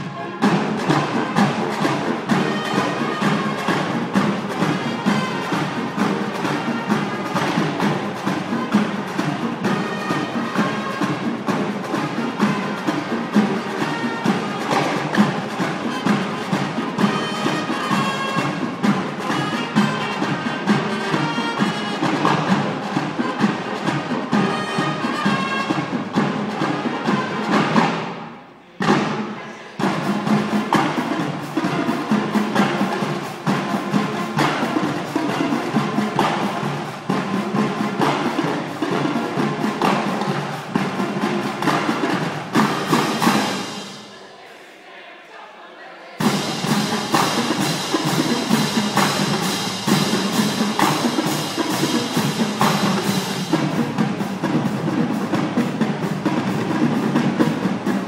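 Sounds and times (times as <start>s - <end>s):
percussion: 0.0s - 44.6s, 46.1s - 58.0s
marching band playing: 0.0s - 44.8s, 46.2s - 58.0s.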